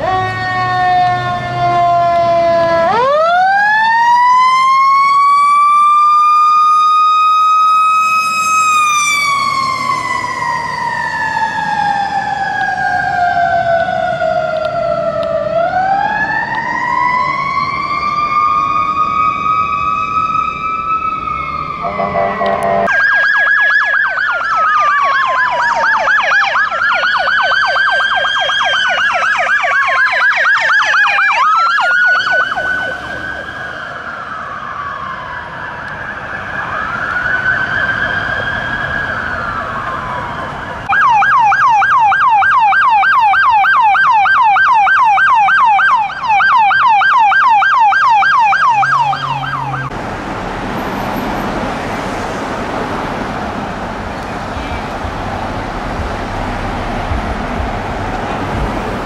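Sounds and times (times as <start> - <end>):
police siren rapid yelp: 0.0 - 49.9
siren yelp and wail: 0.0 - 49.9
traffic noise: 0.0 - 59.0.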